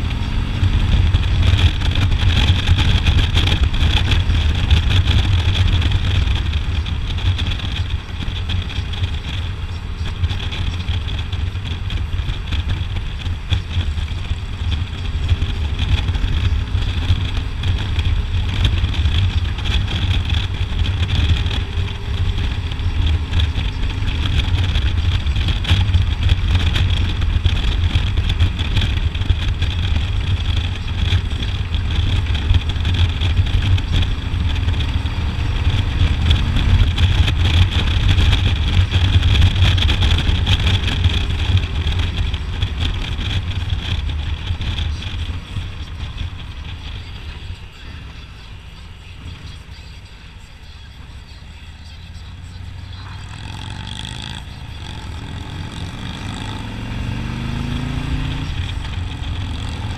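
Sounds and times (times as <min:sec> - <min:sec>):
wind rushing over microphone: 0:00.0 - 0:49.4
motorcycle engine running: 0:00.0 - 0:59.9.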